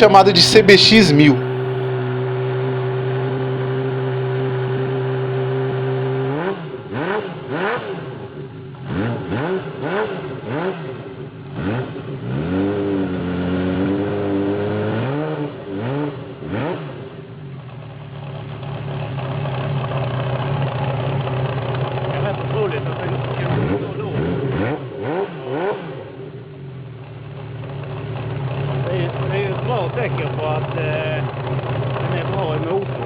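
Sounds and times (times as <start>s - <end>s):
motorcycle engine idling and revving: 2.1s - 33.0s.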